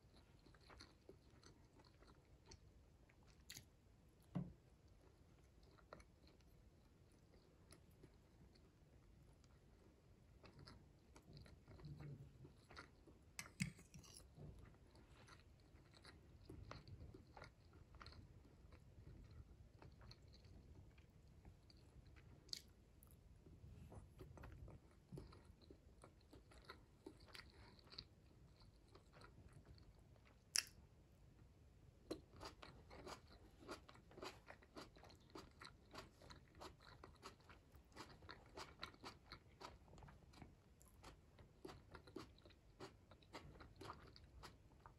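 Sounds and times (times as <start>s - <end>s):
person chewing: 0.0s - 3.7s, 10.4s - 23.2s, 24.0s - 30.8s, 32.1s - 44.9s.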